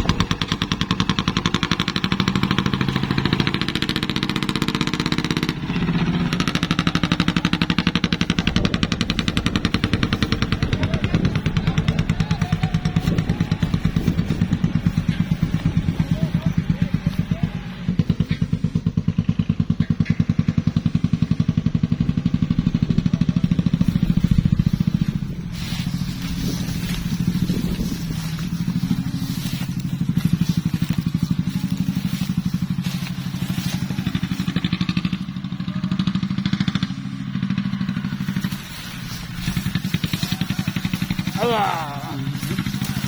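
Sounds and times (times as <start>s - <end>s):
tractor diesel engine under load: 0.0s - 43.0s.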